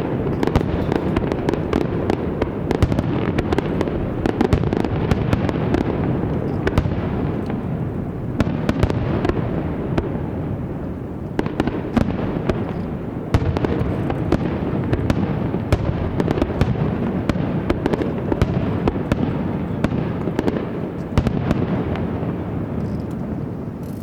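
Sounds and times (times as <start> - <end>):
fireworks cracks and bangs: 0.0 - 23.8.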